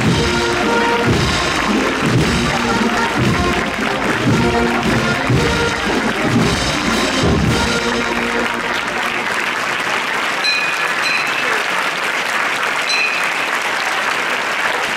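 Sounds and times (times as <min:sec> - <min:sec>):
crowd applauding: 0:00.0 - 0:14.9.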